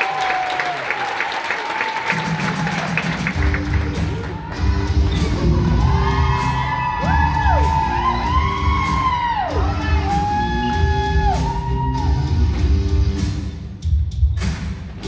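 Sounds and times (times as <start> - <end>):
heavy beat: 2.2 - 15.0.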